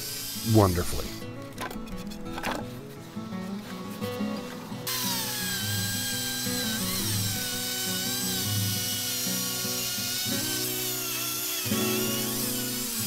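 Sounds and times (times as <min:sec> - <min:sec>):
saw cutting log whine: 0:00.0 - 0:01.3, 0:03.7 - 0:13.0.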